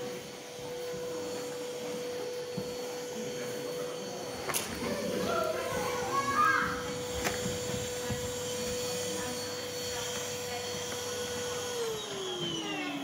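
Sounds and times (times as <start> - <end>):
vacuum cleaner motor whining: 0.0 - 13.0.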